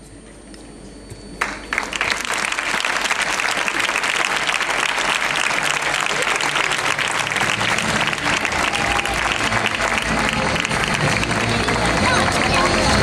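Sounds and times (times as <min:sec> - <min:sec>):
crowd applauding: 0:01.4 - 0:13.0.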